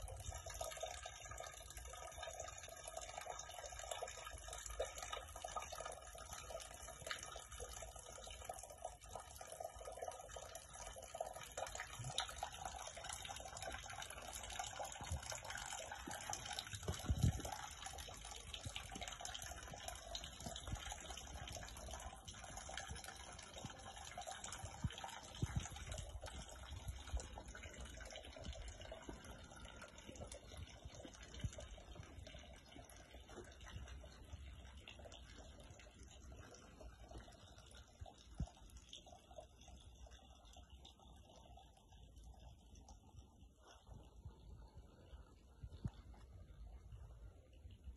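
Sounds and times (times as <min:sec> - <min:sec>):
water trickling into fountain basin: 0:00.0 - 0:47.9.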